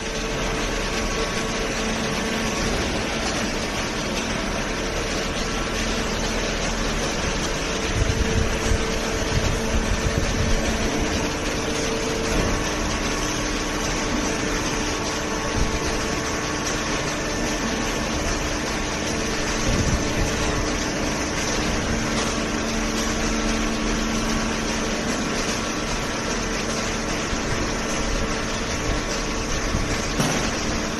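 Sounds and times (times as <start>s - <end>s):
baling machinery noise: 0.0s - 30.9s
machine hums: 0.0s - 30.9s.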